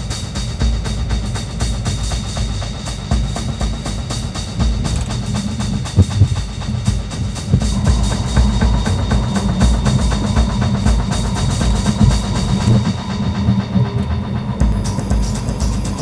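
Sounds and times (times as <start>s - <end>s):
music with quick beat: 0.0s - 16.0s
train running: 0.0s - 16.0s.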